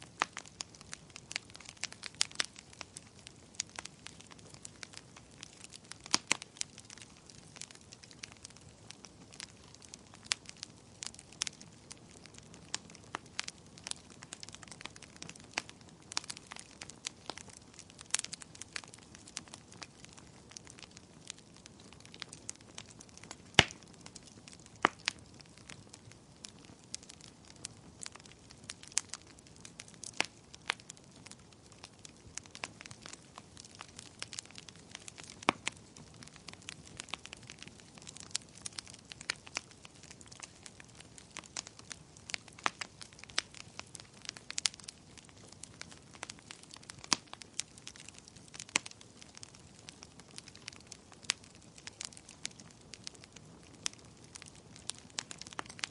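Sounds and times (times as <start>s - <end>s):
campfire pops and snaps: 0.0s - 55.9s.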